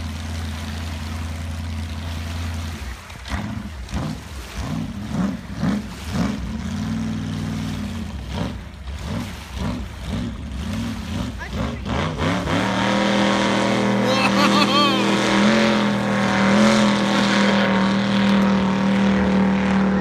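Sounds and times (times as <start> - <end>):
boat engine revving: 0.0 - 20.0.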